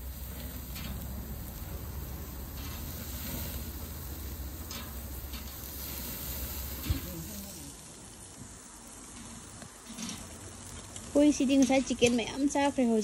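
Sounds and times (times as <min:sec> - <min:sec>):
fire crackles: 0:00.0 - 0:13.0
meat sizzling on a grill: 0:00.0 - 0:13.0.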